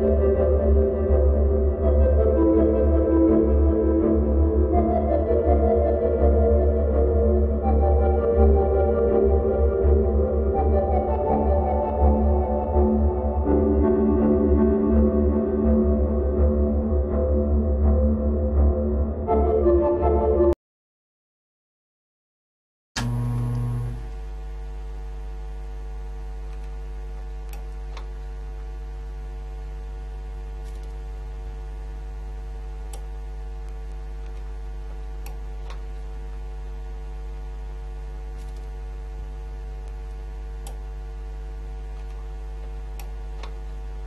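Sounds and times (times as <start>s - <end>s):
steady low hum with tones: 0.0s - 18.8s, 23.0s - 44.0s.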